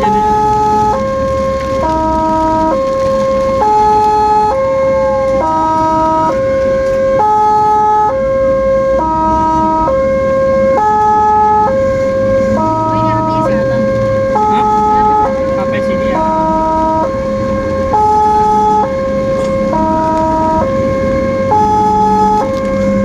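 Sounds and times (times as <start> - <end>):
engine and road rumble: 0.0 - 23.0
two-tone ambulance siren: 0.0 - 23.0.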